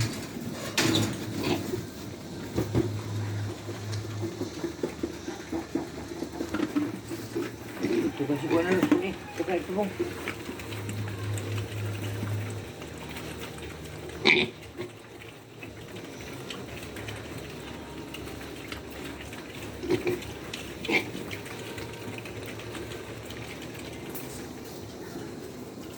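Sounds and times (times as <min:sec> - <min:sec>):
pigs grunting and squealing: 0:00.5 - 0:25.9.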